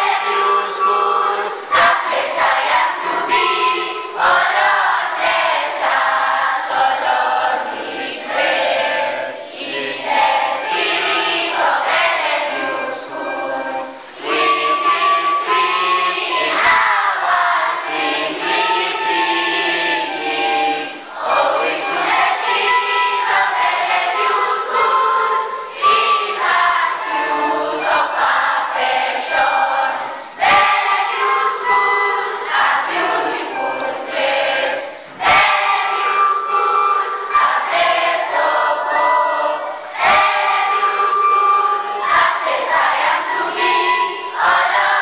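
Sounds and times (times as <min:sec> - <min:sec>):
children singing in chorus: 0:00.0 - 0:45.0.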